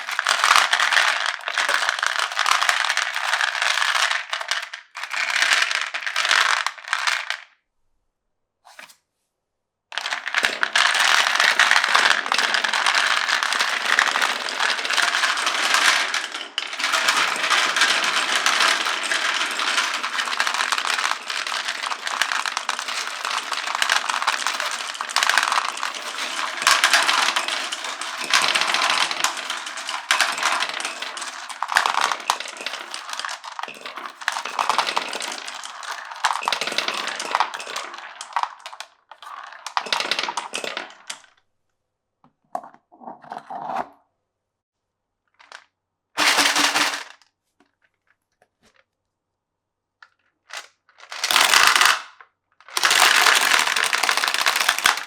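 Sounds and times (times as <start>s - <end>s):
marbles rolling on wooden tracks: 0.0s - 7.5s, 9.9s - 41.4s, 45.4s - 47.2s, 50.1s - 55.0s.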